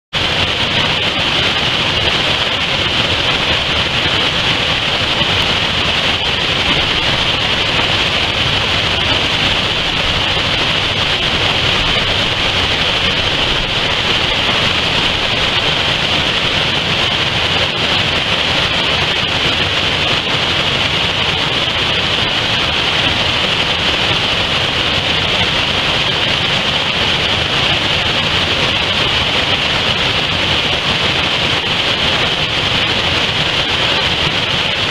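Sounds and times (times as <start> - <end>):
waterfall rushing over rocks: 0.1 - 34.9.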